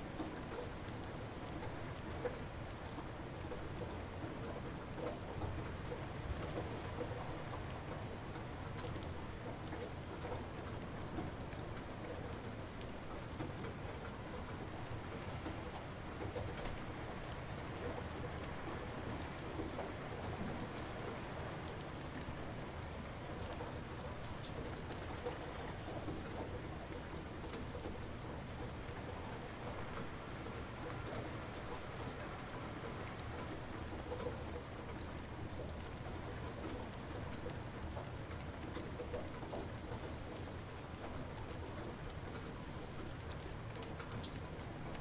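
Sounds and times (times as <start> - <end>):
light rain falling: 0.0 - 45.0.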